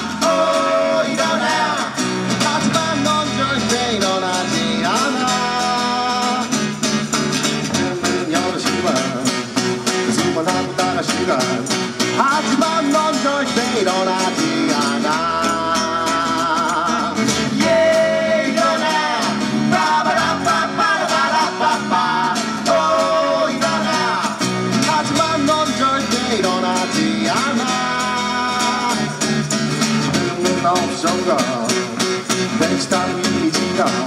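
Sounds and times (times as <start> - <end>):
acoustic guitar: 0.0 - 34.0
electric bass: 0.0 - 34.0.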